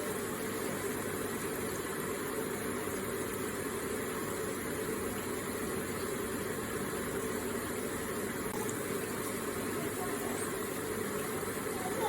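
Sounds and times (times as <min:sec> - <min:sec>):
gentle water flow: 0:00.0 - 0:12.0.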